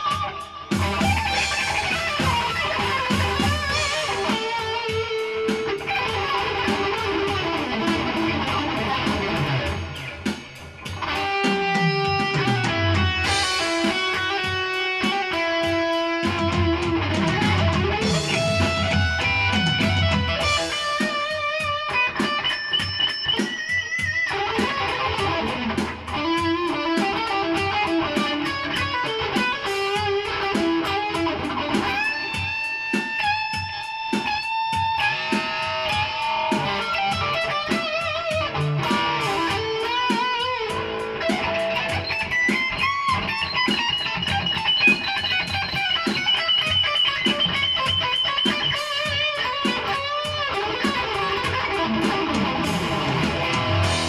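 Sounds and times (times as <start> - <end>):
overdriven electric guitar lead: 0.0 - 54.0.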